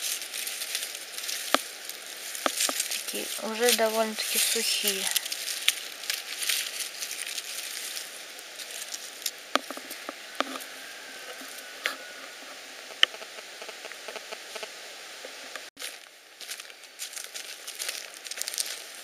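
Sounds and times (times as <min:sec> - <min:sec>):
rustling of grass and forest litter: 0:00.0 - 0:14.6, 0:15.8 - 0:19.0.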